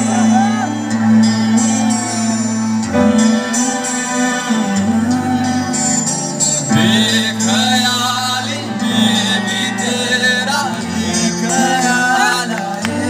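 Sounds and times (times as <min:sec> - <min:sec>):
guitar: 0:00.0 - 0:13.0
keyboard: 0:00.0 - 0:13.0
man singing: 0:00.0 - 0:13.0.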